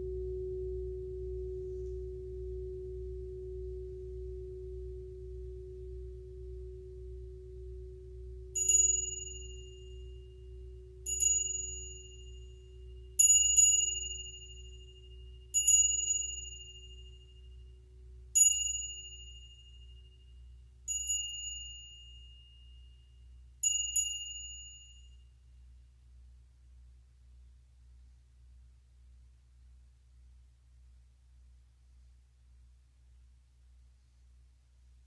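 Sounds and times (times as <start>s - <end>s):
low tuning fork tone: 0.0s - 28.1s.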